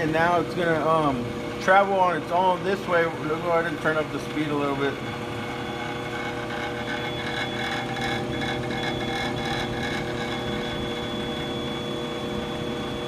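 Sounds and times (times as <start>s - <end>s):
lathe motor whining: 0.0s - 13.0s.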